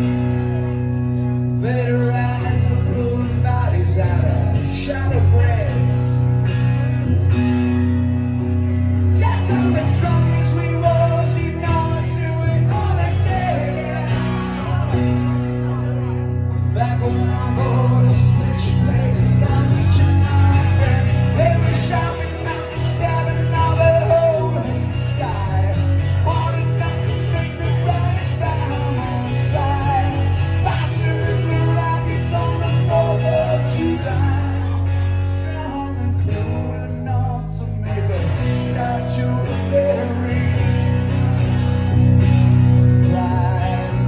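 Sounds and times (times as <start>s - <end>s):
man singing: 0.0s - 7.0s, 8.4s - 44.0s
acoustic guitar: 0.0s - 44.0s
electric bass: 0.0s - 44.0s.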